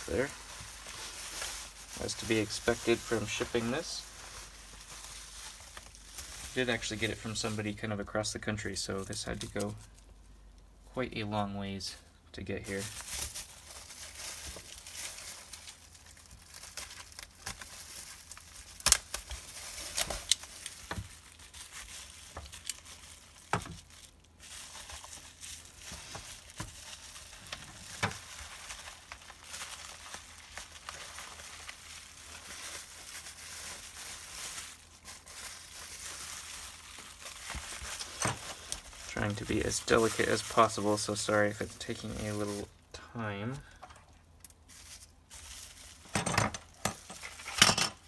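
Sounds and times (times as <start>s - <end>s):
bubble wrap crinkling: 0.0s - 10.7s, 12.5s - 48.0s.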